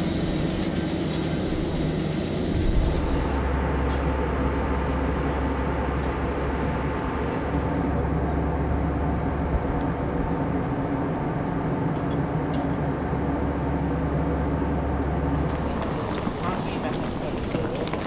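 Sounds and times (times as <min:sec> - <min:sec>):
airliner cabin engine hum: 0:00.0 - 0:18.0.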